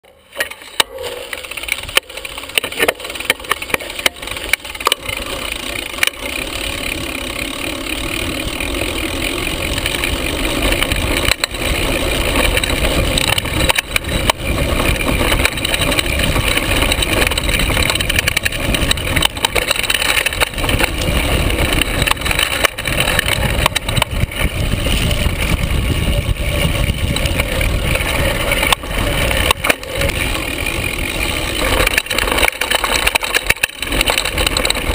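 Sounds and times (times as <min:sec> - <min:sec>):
bike chain and frame rattling: 0:00.0 - 0:34.9.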